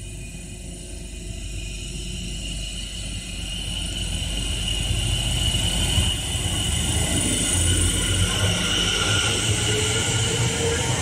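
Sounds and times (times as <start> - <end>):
high-pitched electric whine: 0.0 - 11.0
train rumble: 0.0 - 11.0.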